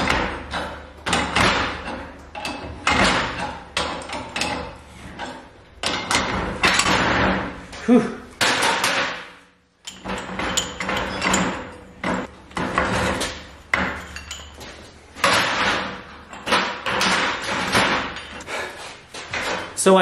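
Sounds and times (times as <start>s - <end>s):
metal clanks and knocks: 0.0s - 19.8s.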